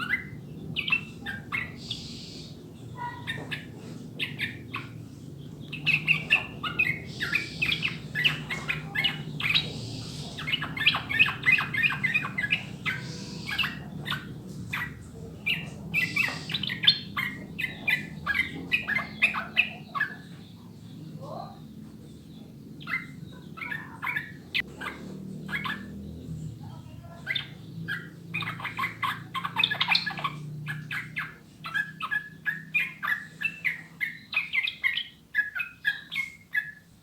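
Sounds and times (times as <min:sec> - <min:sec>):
bird chattering song: 0:00.0 - 0:37.0
faint low hum: 0:00.0 - 0:37.0.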